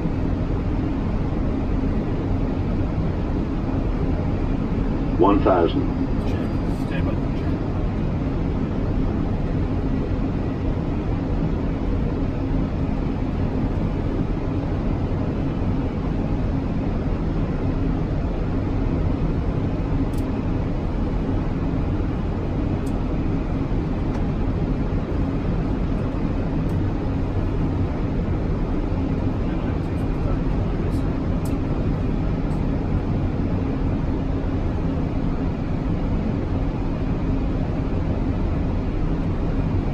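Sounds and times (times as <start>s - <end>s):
airflow and engine rumble: 0.0s - 39.9s
faint steady hum: 0.0s - 39.9s.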